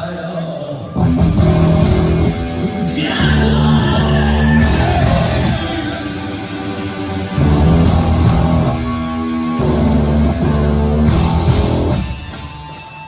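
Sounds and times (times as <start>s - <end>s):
loud electric guitar chords: 0.9s - 13.0s
bass guitar: 1.0s - 12.8s.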